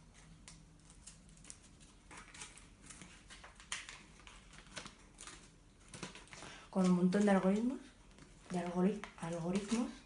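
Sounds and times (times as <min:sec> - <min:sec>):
paper rustling and tapping: 0:00.1 - 0:10.0.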